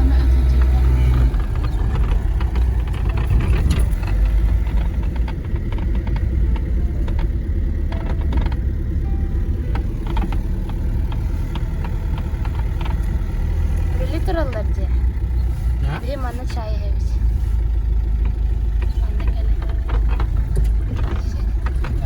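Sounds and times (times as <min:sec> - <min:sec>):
car engine rumble: 0:00.0 - 0:22.0
light clicks and rattles: 0:00.0 - 0:22.0.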